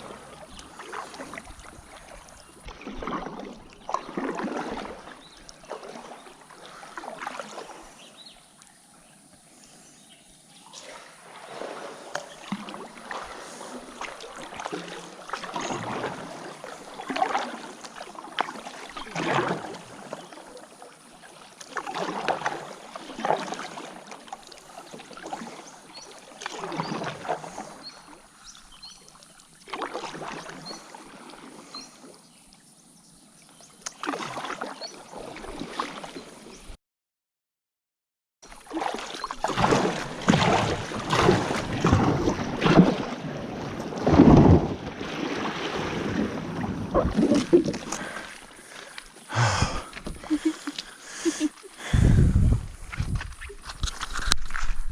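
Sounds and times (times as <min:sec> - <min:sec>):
paddle splashing through water: 0:00.0 - 0:08.4, 0:10.6 - 0:32.4, 0:33.5 - 0:36.8, 0:38.5 - 0:54.9.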